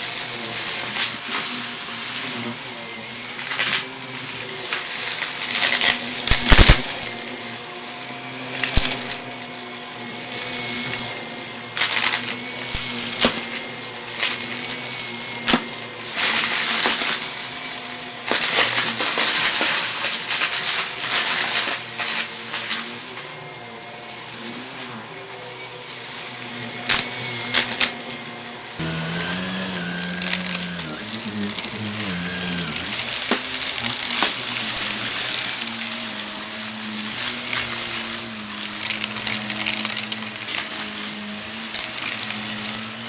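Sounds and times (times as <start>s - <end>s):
debris crackling in vacuum: 0.0s - 43.0s
vacuum cleaner running: 0.0s - 43.0s.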